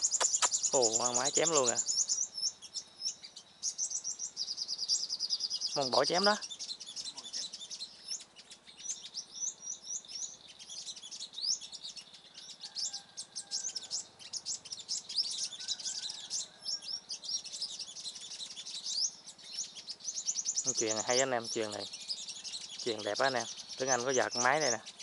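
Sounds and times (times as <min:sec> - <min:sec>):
sunbirds chirping: 0:00.0 - 0:25.0.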